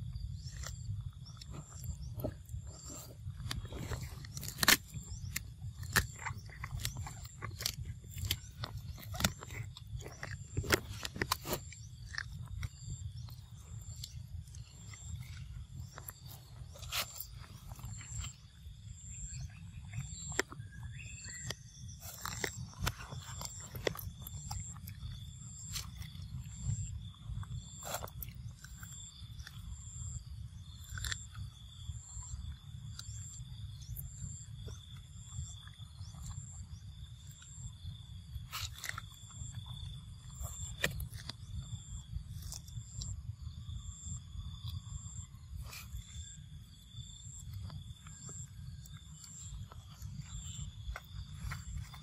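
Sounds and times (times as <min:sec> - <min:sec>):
animal chewing food: 0:00.0 - 0:43.2, 0:43.9 - 0:52.0
insect chirping: 0:00.0 - 0:52.0
low wind rumble: 0:00.0 - 0:52.0.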